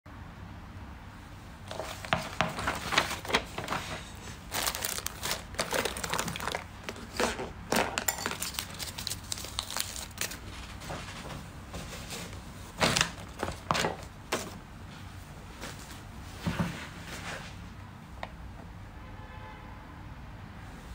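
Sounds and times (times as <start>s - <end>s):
crinkling and rustling handling noise: 1.6s - 18.4s.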